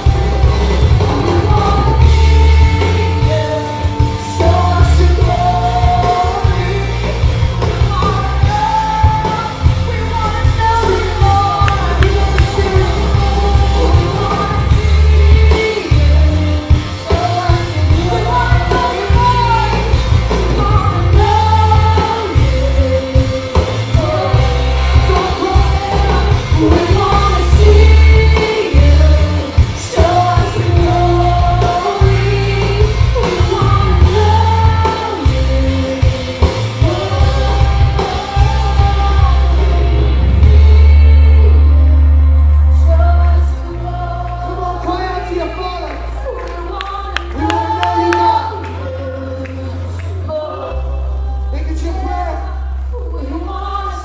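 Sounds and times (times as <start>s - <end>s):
person singing: 0.0s - 54.0s
worship band playing: 0.0s - 54.0s.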